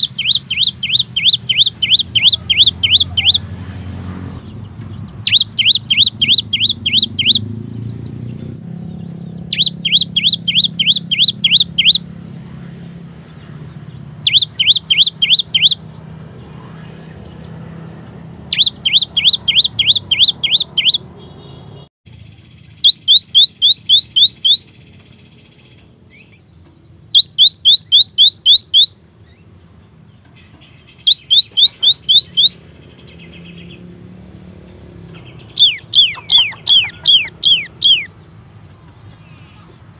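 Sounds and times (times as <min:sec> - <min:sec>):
bird singing whistled notes: 0:00.0 - 0:03.6, 0:04.4 - 0:39.9.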